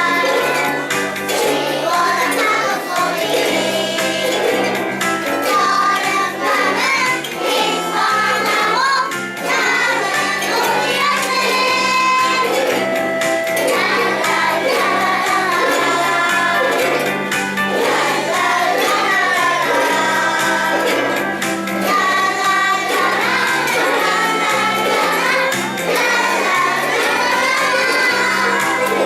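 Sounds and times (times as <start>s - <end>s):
children singing: 0.0s - 29.0s
ukulele and instrumental accompaniment: 0.0s - 29.0s.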